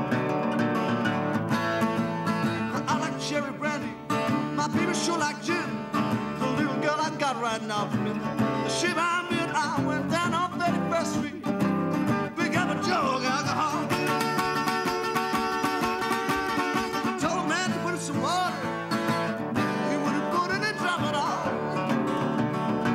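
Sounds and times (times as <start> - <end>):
slide guitar blues: 0.0 - 22.9.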